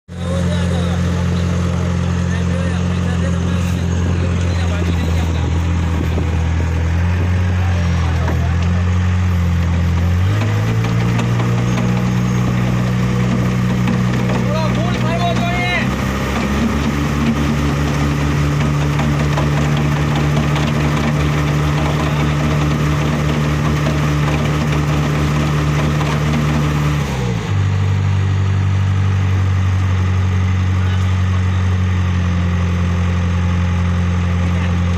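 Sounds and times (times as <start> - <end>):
engine running steadily: 0.1 - 34.9.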